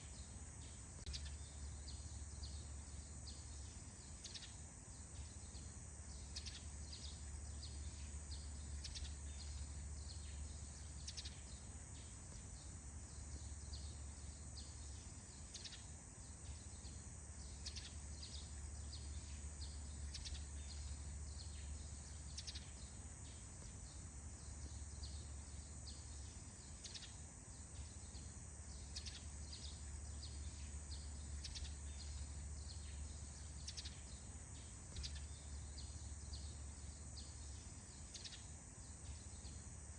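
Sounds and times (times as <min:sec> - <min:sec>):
faint low hum: 0:00.0 - 0:39.9
birds chirping: 0:00.1 - 0:39.6.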